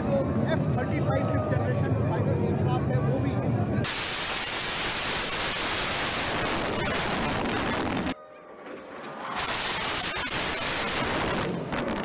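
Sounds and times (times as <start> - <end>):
faint gliding whine: 0.0 - 12.0
fighter jet engine roar: 0.0 - 12.0.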